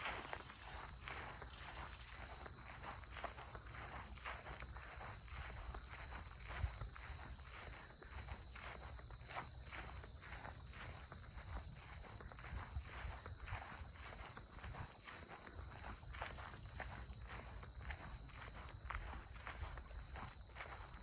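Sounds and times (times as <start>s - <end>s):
crickets chirping: 0.0s - 21.0s
crunching footsteps: 0.0s - 21.0s.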